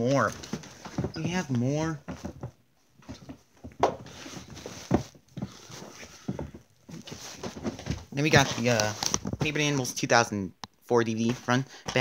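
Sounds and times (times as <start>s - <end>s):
rustling: 0.0s - 10.0s.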